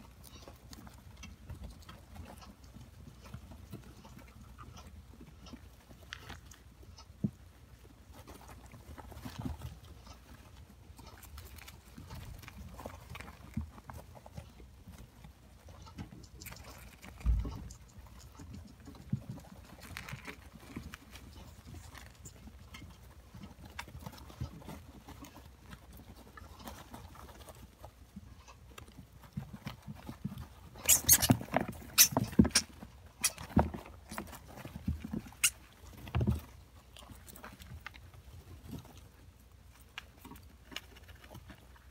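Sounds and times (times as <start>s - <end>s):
hamsters rustling in bedding: 0.0s - 41.9s.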